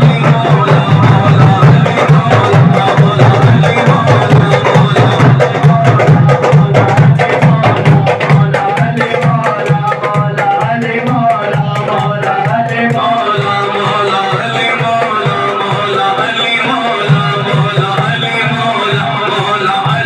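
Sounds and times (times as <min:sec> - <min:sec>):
hand drum: 0:00.0 - 0:16.0
men singing over loudspeakers: 0:00.0 - 0:20.0.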